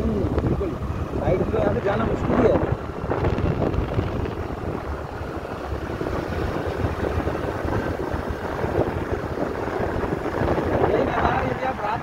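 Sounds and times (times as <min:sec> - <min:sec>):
car engine and tyres on wet road: 0:00.0 - 0:12.0
wind noise on microphone: 0:00.0 - 0:12.0.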